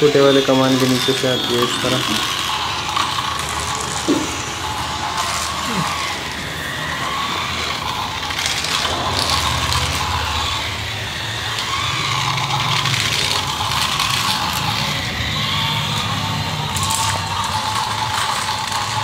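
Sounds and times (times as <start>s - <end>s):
toy train motor whirring: 0.0s - 19.0s.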